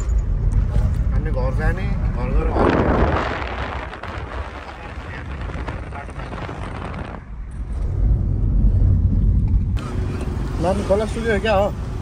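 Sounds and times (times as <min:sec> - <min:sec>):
vehicle rumble: 0:00.0 - 0:12.0
wind noise from moving vehicle: 0:00.0 - 0:12.0.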